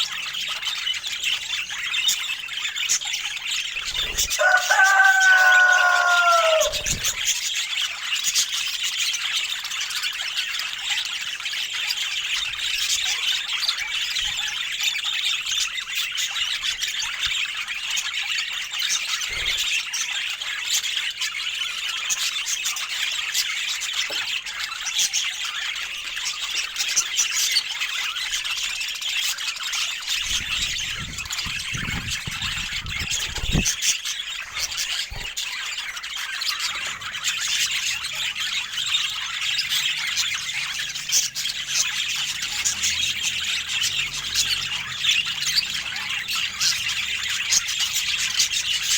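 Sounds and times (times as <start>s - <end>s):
budgies chattering: 0.0s - 48.9s.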